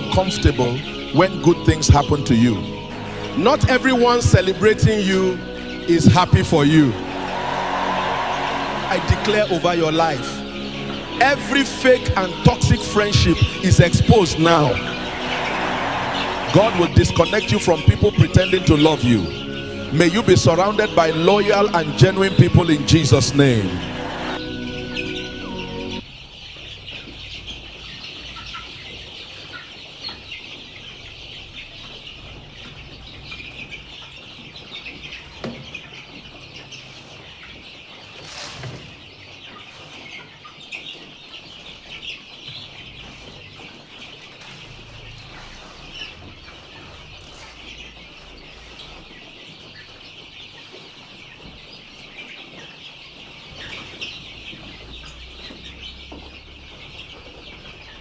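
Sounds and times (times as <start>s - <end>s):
poultry clucking: 0.0s - 58.0s.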